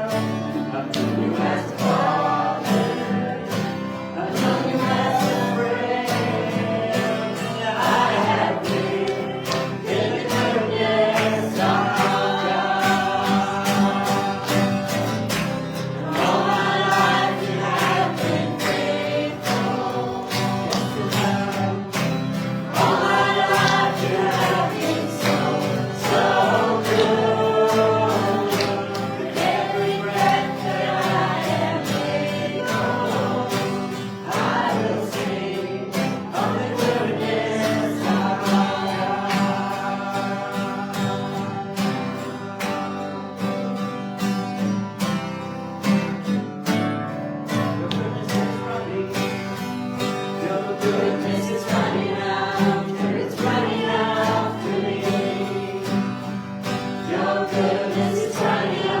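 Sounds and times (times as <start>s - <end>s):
congregation singing: 0.0s - 59.0s
guitar with steady beat: 0.0s - 59.0s.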